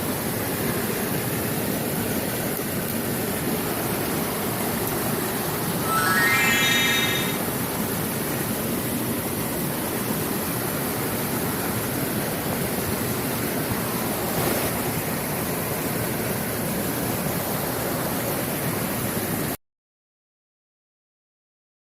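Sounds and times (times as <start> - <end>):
stream water rushing: 1.2 - 19.4.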